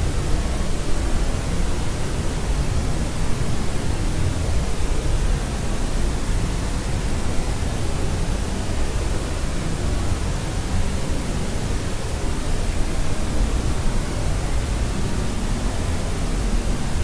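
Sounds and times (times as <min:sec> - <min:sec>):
steady white noise hiss: 0:00.0 - 0:17.0.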